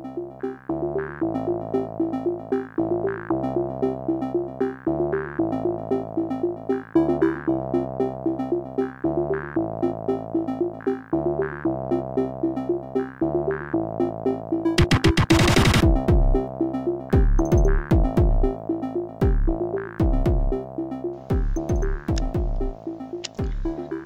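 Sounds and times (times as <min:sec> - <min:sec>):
bass line: 0:00.0 - 0:24.0
synthesizer arpeggio: 0:00.0 - 0:24.0.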